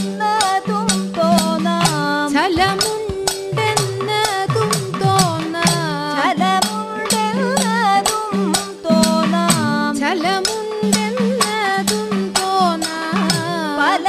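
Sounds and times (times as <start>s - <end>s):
drums: 0.0s - 14.0s
woman singing: 0.0s - 14.0s.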